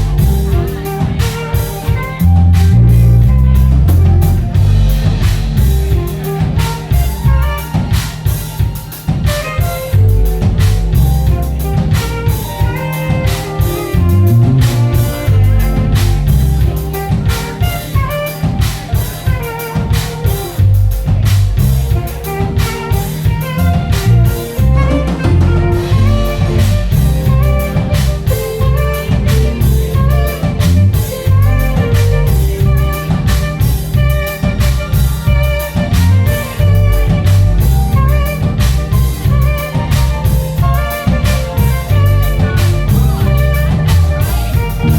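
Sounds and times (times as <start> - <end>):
backing track with drums and bass: 0.0 - 44.9
saxophone melody: 0.0 - 44.9.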